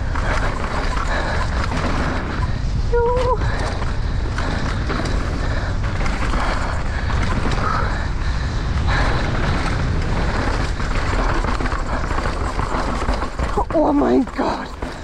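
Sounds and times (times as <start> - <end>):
bike rattling over rough ground: 0.0 - 15.0
wind rushing over microphone: 0.0 - 15.0.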